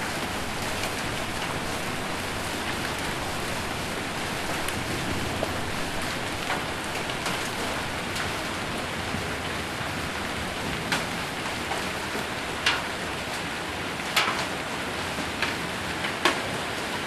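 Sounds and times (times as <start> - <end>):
hailstones tapping metal roof: 0.0 - 17.0
rain on a metal roof: 0.0 - 17.0.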